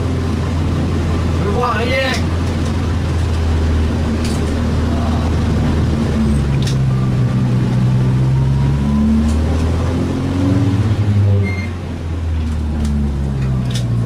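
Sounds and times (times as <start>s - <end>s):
car engine running under load: 0.0s - 14.0s.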